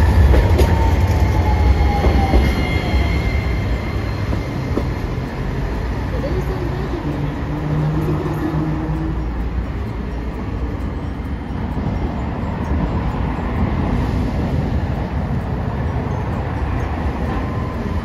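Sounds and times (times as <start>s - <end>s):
cars passing: 0.0s - 18.0s
streetcar approaching: 0.0s - 18.0s.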